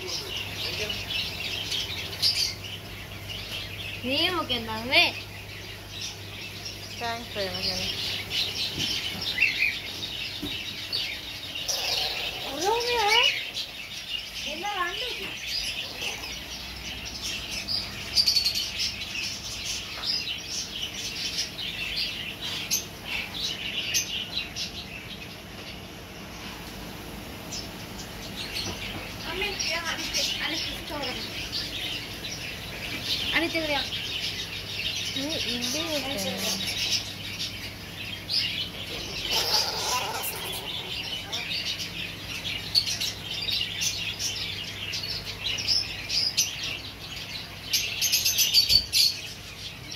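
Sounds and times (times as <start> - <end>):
caged birds chirping: 0.0 - 49.9.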